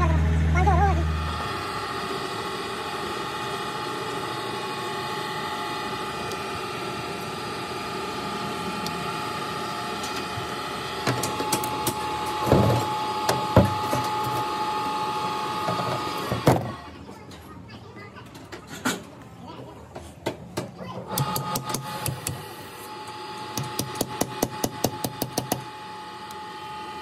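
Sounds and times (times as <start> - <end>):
machine hum: 0.0 - 17.0, 21.0 - 27.0.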